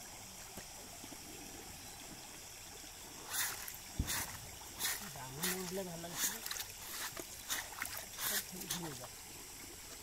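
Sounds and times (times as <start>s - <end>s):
faint steady hiss: 0.0s - 10.0s
water splashing: 0.0s - 10.0s.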